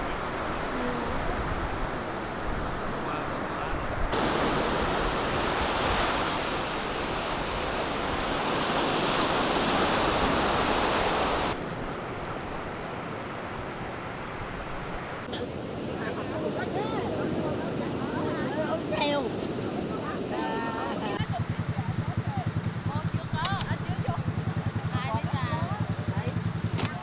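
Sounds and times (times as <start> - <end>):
sea surf on beach: 0.0 - 27.0
wind: 0.0 - 27.0.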